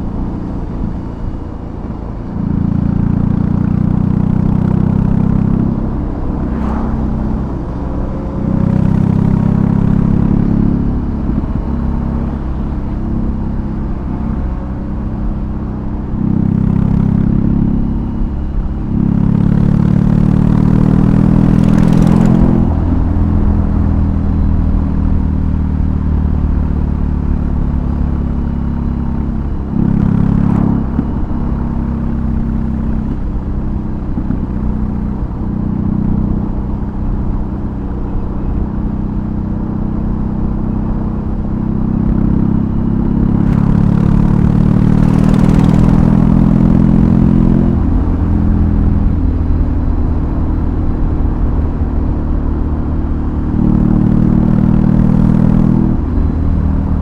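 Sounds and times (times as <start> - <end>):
motorcycle engine riding: 0.0 - 57.0.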